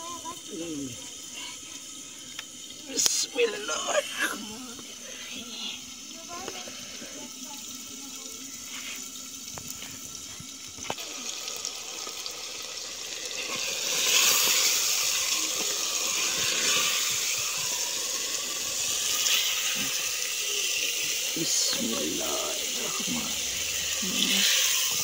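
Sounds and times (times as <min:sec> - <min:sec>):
curry bubbling in pot: 0:04.4 - 0:25.0.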